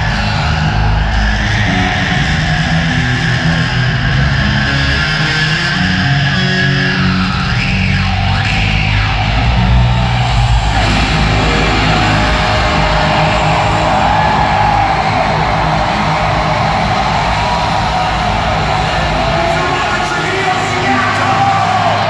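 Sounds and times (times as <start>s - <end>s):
electric bass guitar solo: 0.0s - 20.2s.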